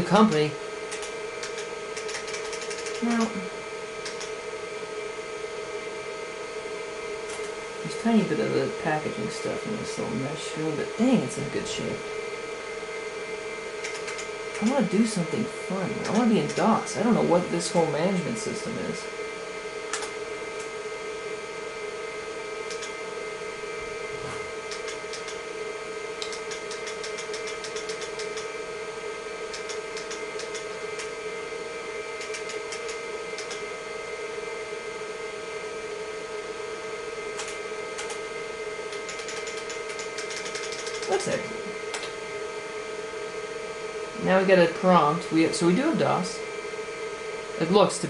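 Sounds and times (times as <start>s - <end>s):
computer fan and hard drive hum: 0.0s - 48.0s.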